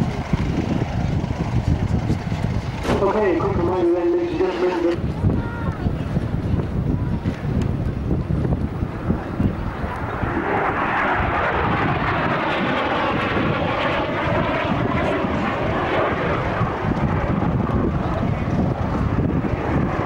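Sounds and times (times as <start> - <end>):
jet engine rushing: 0.0 - 20.0.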